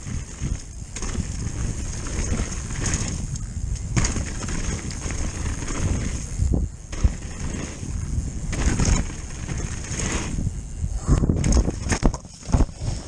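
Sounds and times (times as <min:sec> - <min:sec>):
bike knocks and rattles: 0:00.0 - 0:10.6, 0:11.3 - 0:13.0
tyres rumbling on dirt trail: 0:00.0 - 0:13.0
wind on microphone: 0:00.0 - 0:13.0.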